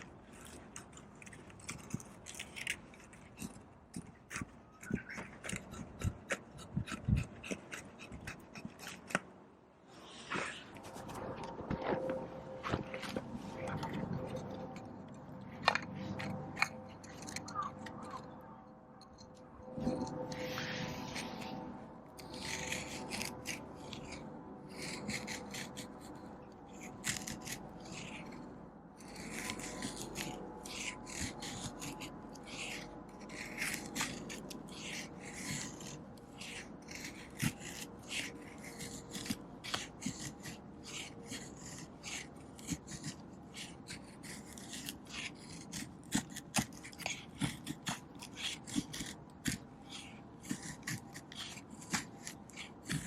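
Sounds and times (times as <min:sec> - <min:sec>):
knife scraping wood: 0:00.0 - 0:09.3, 0:09.9 - 0:18.4, 0:19.2 - 0:53.0.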